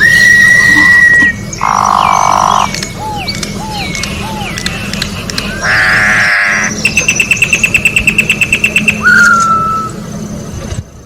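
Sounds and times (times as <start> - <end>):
bird calling: 0.0 - 10.1
steady low hum: 0.0 - 11.0.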